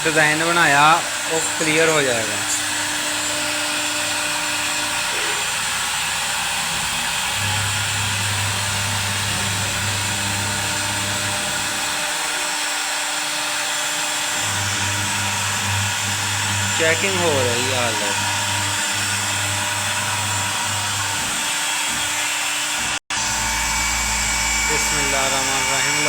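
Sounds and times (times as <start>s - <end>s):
wood router rushing noise: 0.0s - 26.0s.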